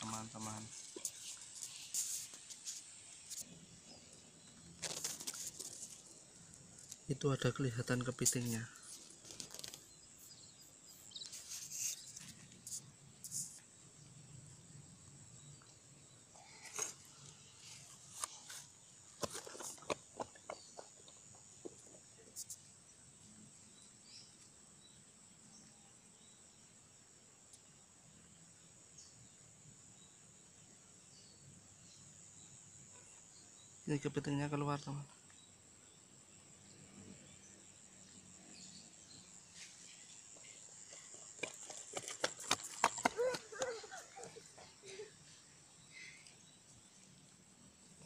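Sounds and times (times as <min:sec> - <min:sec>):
insect trill: 0:00.0 - 0:48.0.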